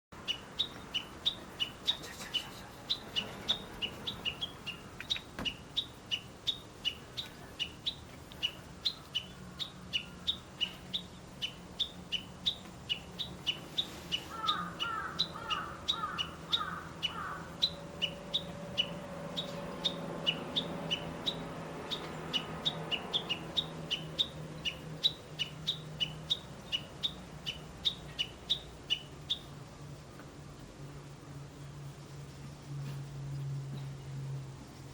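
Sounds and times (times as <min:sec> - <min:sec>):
songbird chirping: 0:00.2 - 0:34.9
lower bird notes: 0:00.3 - 0:29.5.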